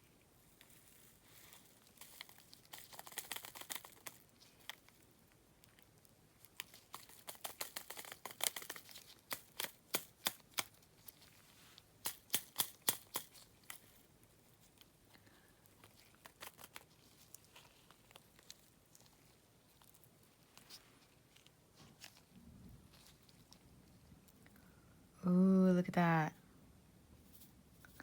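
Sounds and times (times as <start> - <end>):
plastic packaging crinkling: 0.5 - 24.4.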